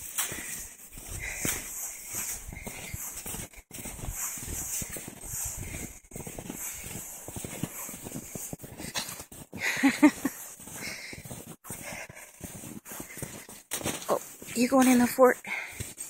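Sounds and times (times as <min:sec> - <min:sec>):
footsteps crunching through snow: 0:00.0 - 0:16.0.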